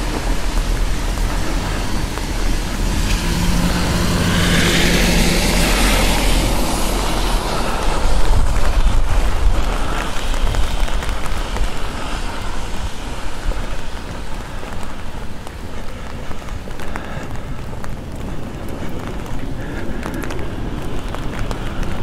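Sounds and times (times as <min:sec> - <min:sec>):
hiss of traffic: 0:00.0 - 0:22.0
vehicle rumble passing: 0:00.0 - 0:22.0.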